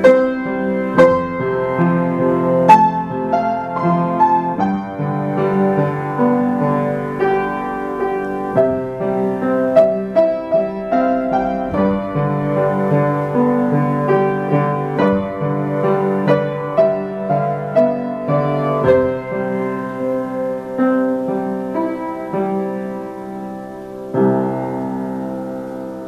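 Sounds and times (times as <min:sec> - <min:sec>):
electric piano music: 0:00.0 - 0:26.0.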